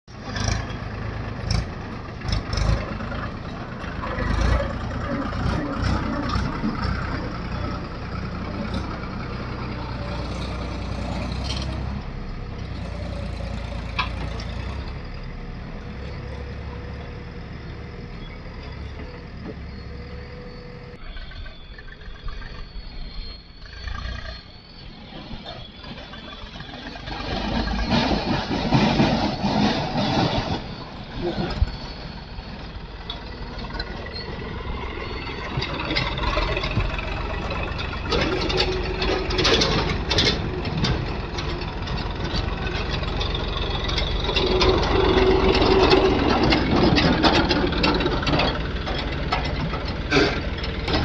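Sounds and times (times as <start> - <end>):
diesel engine under load: 0.0 - 51.0.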